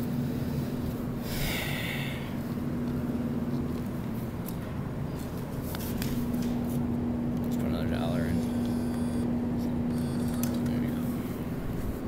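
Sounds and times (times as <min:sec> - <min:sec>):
claw machine electrical hum: 0:00.0 - 0:12.0.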